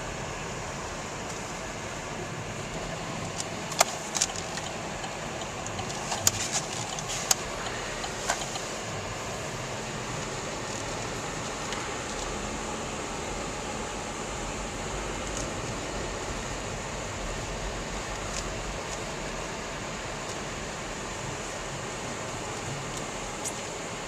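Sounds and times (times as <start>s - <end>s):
car road and cabin noise: 0.0s - 24.0s.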